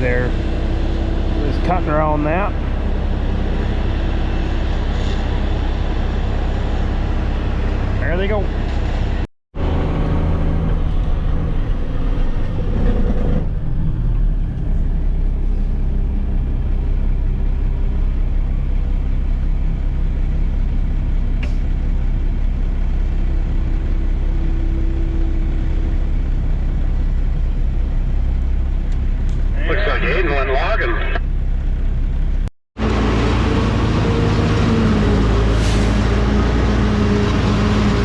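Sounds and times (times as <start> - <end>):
truck engine droning: 0.0 - 38.0.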